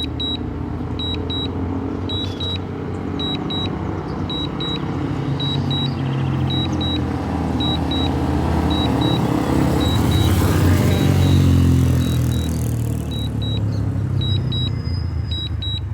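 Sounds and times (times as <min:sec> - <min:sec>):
short high warning beeps: 0:00.0 - 0:15.9.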